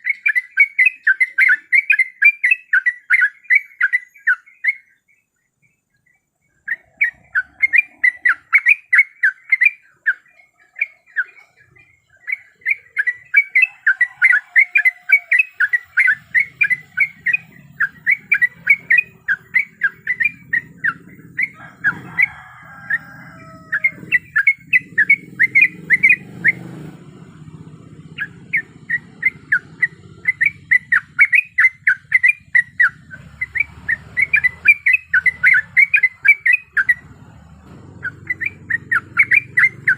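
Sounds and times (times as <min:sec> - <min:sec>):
bird gliding calls: 0:00.0 - 0:04.8, 0:06.5 - 0:39.9
bird singing chattering runs: 0:00.0 - 0:39.9.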